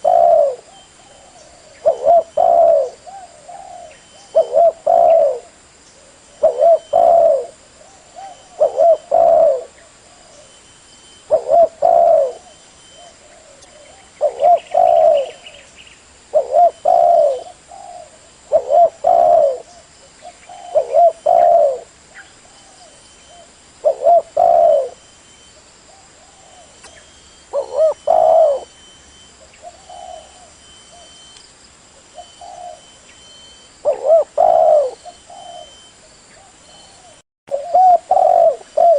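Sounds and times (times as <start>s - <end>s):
dove cooing: 0.0s - 10.6s, 11.2s - 15.7s, 16.3s - 31.3s, 32.1s - 38.9s.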